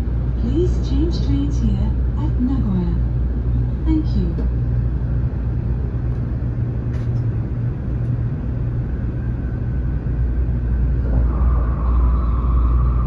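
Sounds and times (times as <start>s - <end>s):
steady whine: 0.0s - 13.0s
train running rumble: 0.0s - 13.0s.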